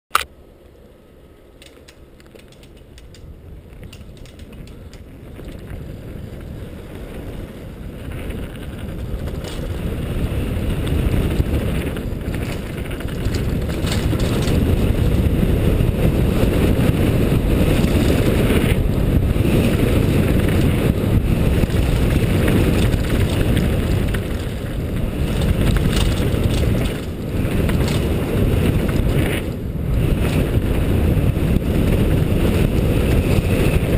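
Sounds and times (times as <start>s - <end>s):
bike clicking and rattling: 0.1s - 33.9s
tyres over dirt and rocks: 0.2s - 33.9s
wind buffeting a camera: 1.6s - 33.9s.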